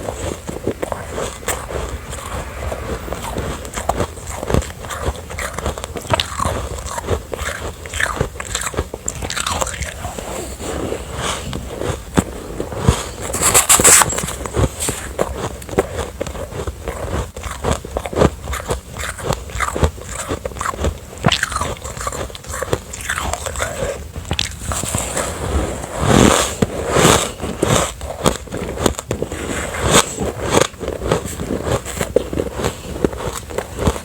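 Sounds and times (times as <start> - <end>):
chewing crunchy ice: 0.0 - 34.0.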